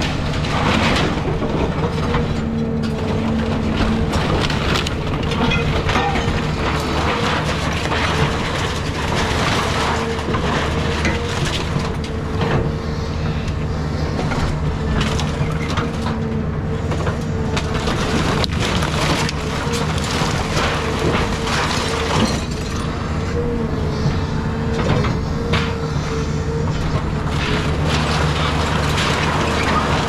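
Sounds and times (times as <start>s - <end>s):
wreckage cracking and crunching: 0.0s - 16.2s, 16.8s - 30.0s
excavator diesel drone: 0.0s - 30.0s.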